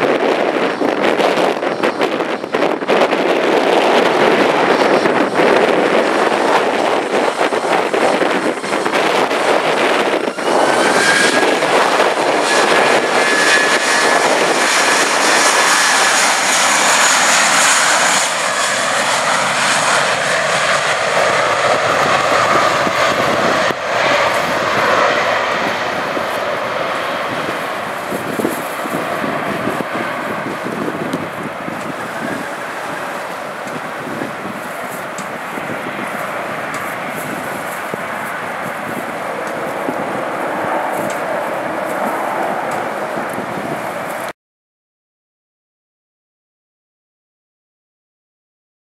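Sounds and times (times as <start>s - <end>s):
jet engines at takeoff thrust: 0.0s - 44.4s.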